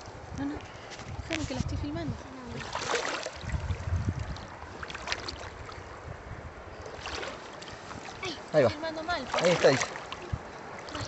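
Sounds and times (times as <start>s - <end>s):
river water sloshing and splashing: 0.0s - 11.0s.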